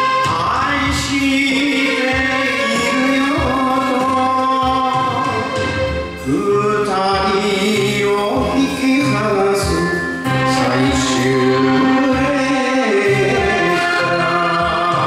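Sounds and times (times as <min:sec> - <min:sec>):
band backing music: 0:00.0 - 0:15.0
person singing long notes: 0:00.4 - 0:15.0.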